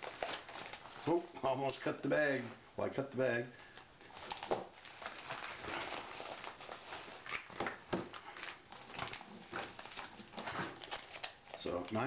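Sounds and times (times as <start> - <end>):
plastic bag crinkling: 0.0 - 2.6, 3.4 - 12.0.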